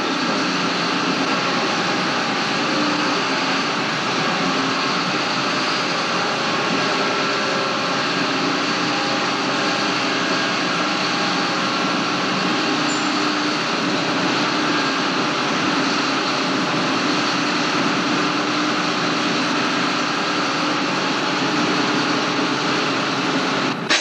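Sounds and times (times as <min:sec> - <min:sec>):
farm machinery engine drone: 0:00.0 - 0:24.0.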